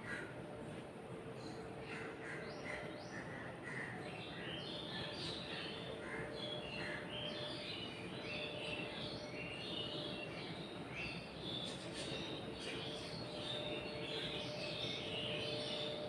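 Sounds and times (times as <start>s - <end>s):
birds chirping: 0.0s - 16.0s
steady hum: 0.0s - 16.0s.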